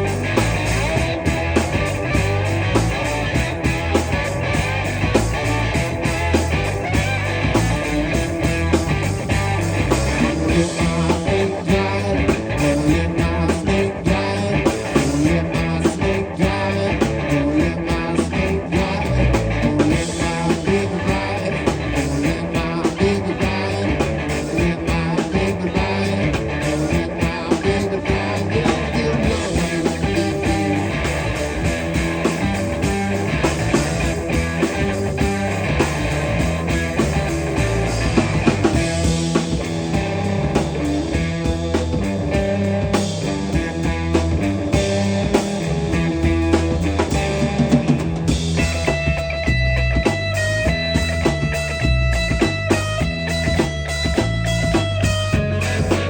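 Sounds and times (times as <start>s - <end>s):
drum beat: 0.0s - 16.2s, 17.1s - 56.0s
live rock band playing: 0.0s - 56.0s.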